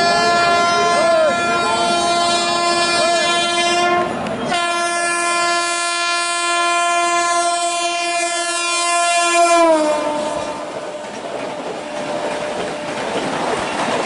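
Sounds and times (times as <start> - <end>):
locomotive horn blasts: 0.0 - 13.1.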